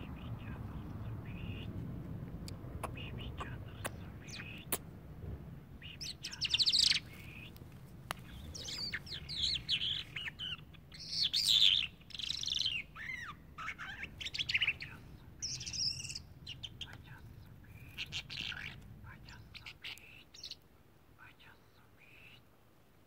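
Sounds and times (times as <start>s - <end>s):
songbird trilling and chirping: 0.0s - 1.8s, 2.8s - 4.8s, 5.8s - 20.6s, 21.4s - 22.4s.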